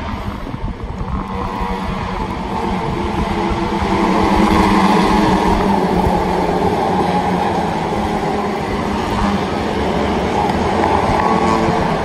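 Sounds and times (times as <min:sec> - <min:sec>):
racing motorcycles at high revs: 0:00.9 - 0:12.0.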